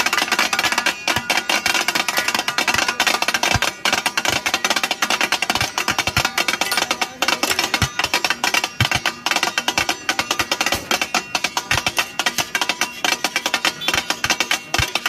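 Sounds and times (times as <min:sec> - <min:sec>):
metal spatulas clattering on griddle: 0:00.0 - 0:15.0.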